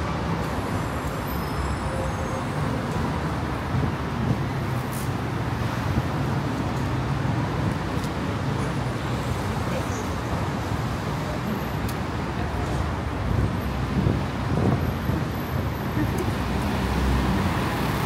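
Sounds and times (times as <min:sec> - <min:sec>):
rumble of passing traffic: 0:00.0 - 0:18.0.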